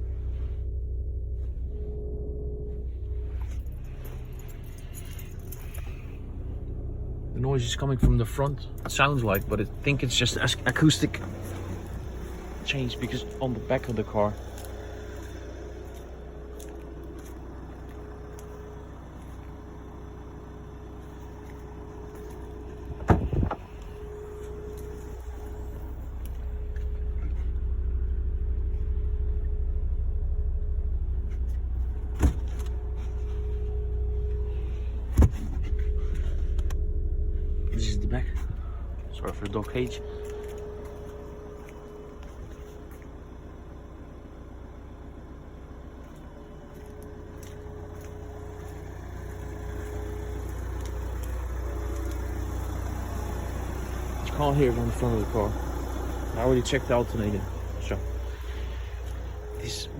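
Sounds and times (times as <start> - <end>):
diesel engine running: 0.0 - 59.9
fuel pump humming whine: 0.0 - 59.9.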